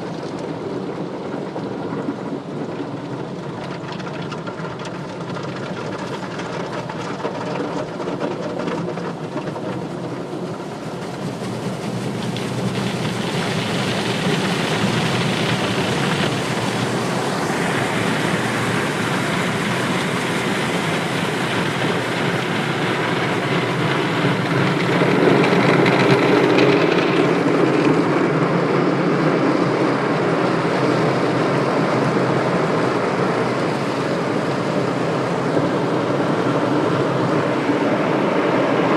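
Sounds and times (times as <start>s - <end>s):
car wash water spray and machinery: 0.0s - 38.9s.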